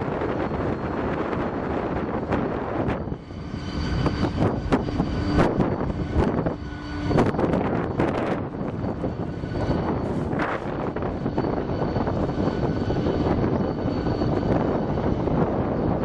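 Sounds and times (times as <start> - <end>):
steady multi-tone whine: 0.0 - 16.0
train wheels rumbling on rails: 0.0 - 16.0.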